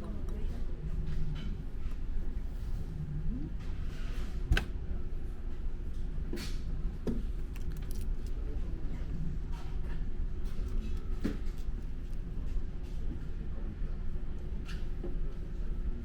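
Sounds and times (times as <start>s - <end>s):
ferry engine low rumble: 0.0s - 16.0s.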